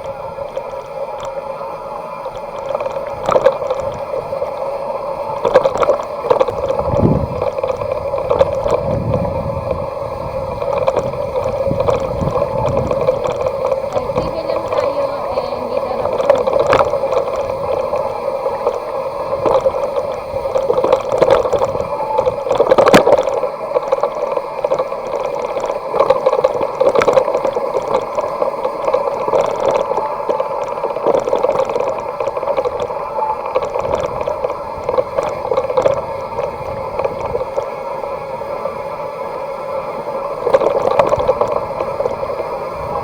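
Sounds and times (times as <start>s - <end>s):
bicycle hub buzzing: 0.0s - 43.0s.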